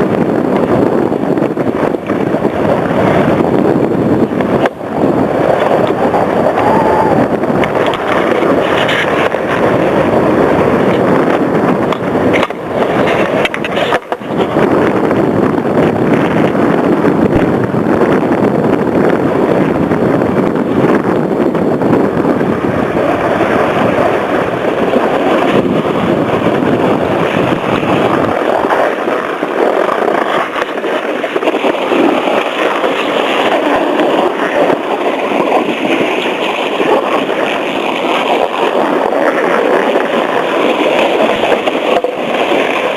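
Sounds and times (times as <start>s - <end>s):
skis scraping on packed snow: 0.0s - 17.6s, 19.0s - 42.9s
wind on microphone: 0.0s - 42.9s.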